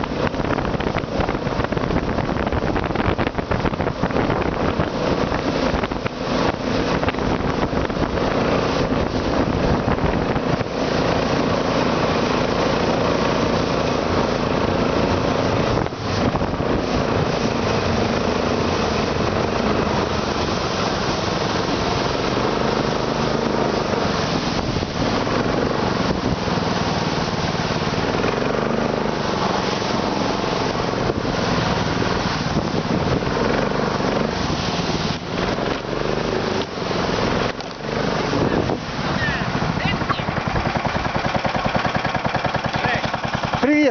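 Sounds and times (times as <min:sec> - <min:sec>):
engine running with knock: 0:00.0 - 0:38.5, 0:39.8 - 0:43.9.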